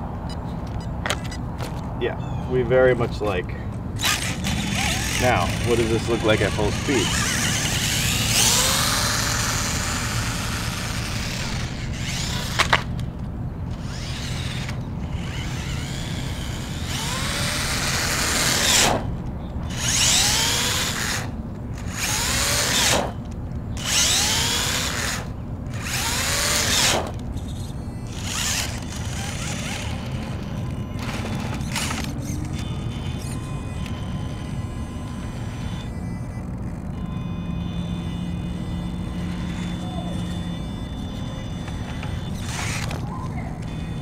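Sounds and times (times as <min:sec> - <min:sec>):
electric motor whining: 0:04.0 - 0:13.1, 0:13.7 - 0:44.0.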